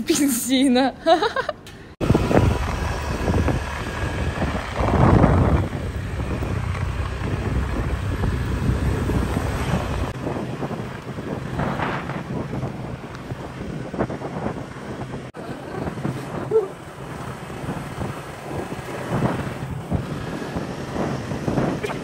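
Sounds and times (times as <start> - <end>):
wind rushing over microphone: 1.9 - 22.0
scooter engine running: 2.0 - 22.0.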